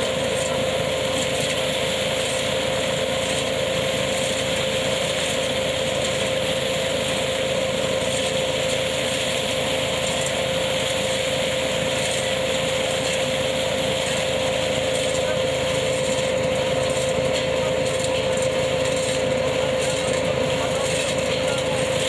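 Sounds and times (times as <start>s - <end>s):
harvesting machine running: 0.0s - 22.0s.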